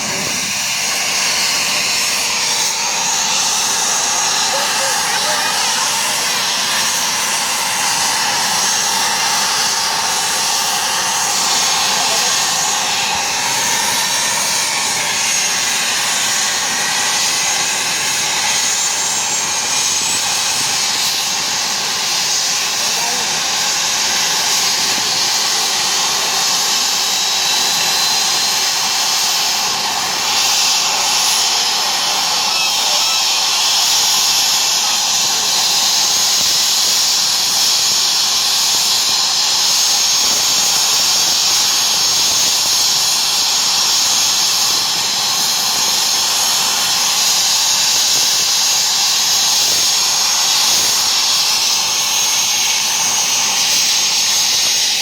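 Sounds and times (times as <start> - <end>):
small aircraft engine whine: 0.0 - 55.0.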